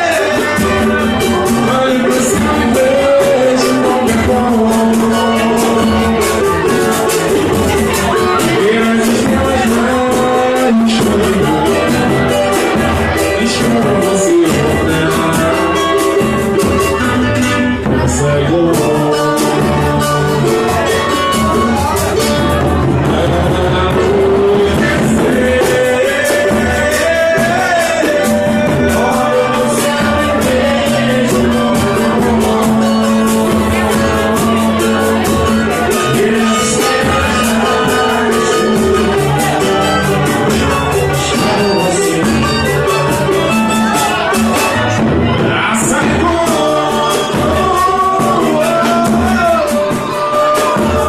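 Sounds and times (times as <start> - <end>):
band playing popular music: 0.0 - 51.0
percussion quick steady beat: 0.0 - 51.0
person singing: 0.0 - 51.0.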